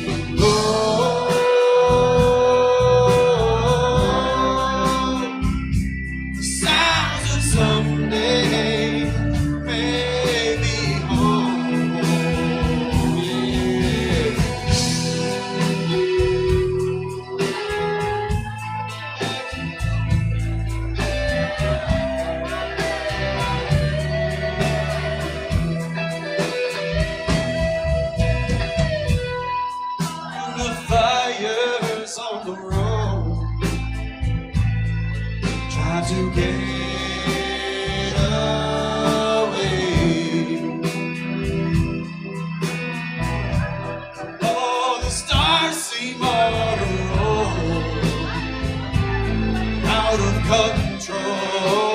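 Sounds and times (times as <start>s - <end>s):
electric guitar: 0.0s - 51.9s
live blues-rock band: 0.0s - 51.9s.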